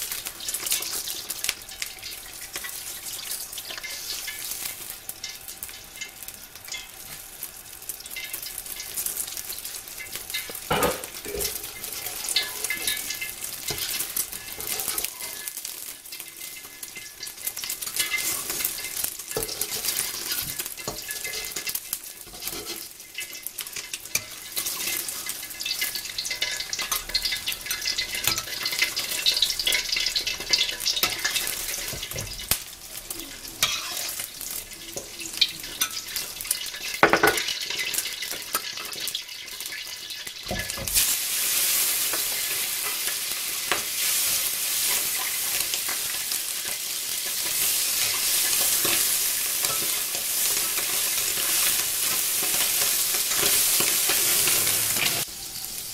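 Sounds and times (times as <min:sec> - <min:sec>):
food sizzling in oil: 0:00.0 - 0:55.9
spatula scraping wok: 0:02.5 - 0:07.3, 0:08.1 - 0:55.3.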